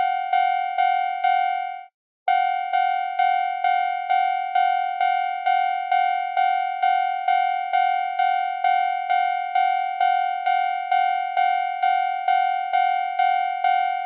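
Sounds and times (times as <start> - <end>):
railroad crossing bell ringing: 0.0 - 14.0.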